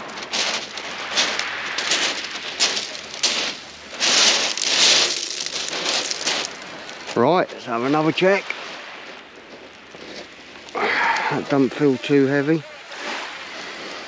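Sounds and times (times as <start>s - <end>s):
shingle pebbles crackling and hissing: 0.0s - 14.0s.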